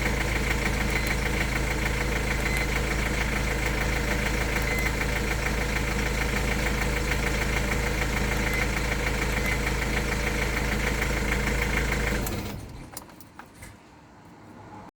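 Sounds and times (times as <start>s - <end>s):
diesel engine idling: 0.0s - 12.9s
engine running down: 0.0s - 12.9s.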